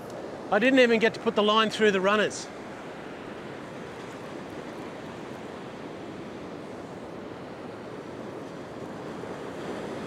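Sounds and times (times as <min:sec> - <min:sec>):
waves breaking on beach: 0:00.0 - 0:10.0.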